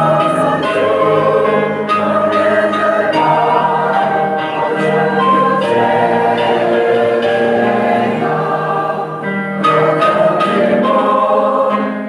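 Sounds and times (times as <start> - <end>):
choir and congregation singing hymn: 0.0 - 12.0.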